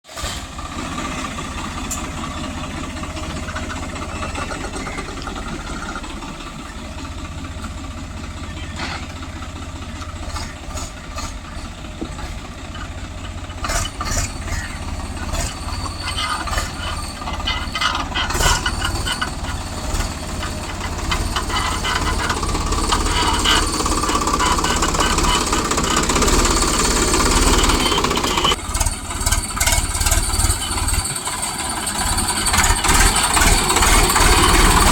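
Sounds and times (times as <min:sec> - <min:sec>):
heavy machinery engine running: 0:00.1 - 0:34.9.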